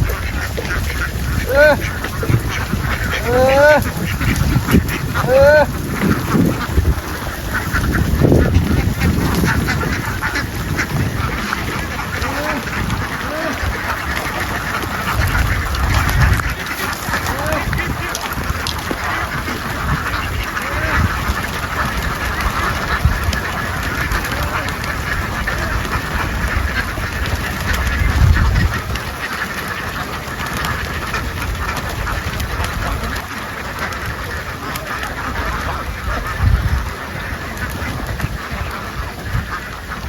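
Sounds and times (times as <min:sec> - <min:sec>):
flock of ducks quacking: 0:00.0 - 0:40.0.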